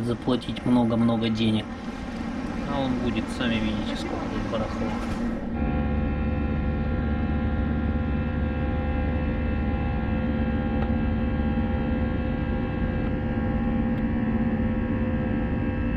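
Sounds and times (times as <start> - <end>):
jet engine drone in cabin: 0.0 - 15.9.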